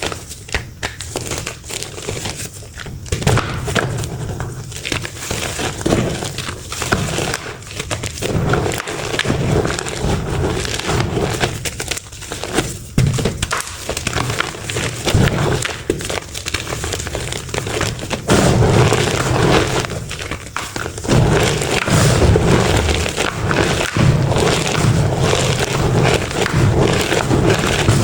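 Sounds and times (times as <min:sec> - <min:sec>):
powder blocks crunching: 0:00.0 - 0:28.0.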